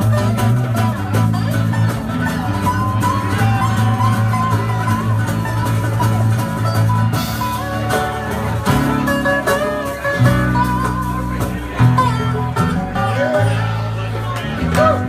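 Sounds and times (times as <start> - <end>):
lead guitar line: 0.0 - 15.0
live band playing: 0.0 - 15.0.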